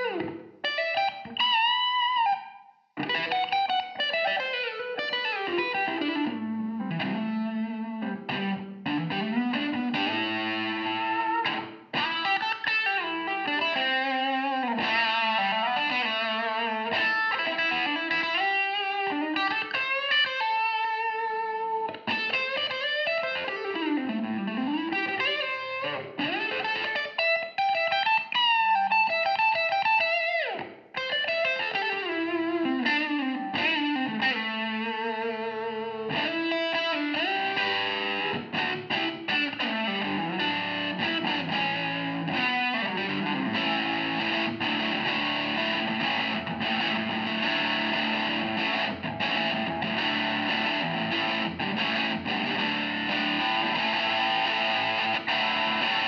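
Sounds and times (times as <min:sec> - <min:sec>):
electric guitar lead with vibrato: 0:00.0 - 0:56.0.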